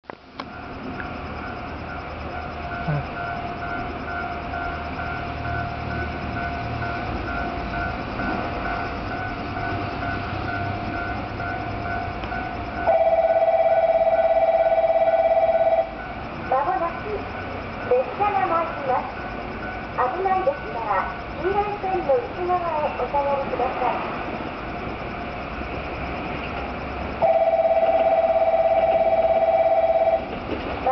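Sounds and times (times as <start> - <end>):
train rumble: 0.0 - 30.9
electronic warning tone: 0.4 - 30.9
pulsing warning signal: 0.4 - 30.9.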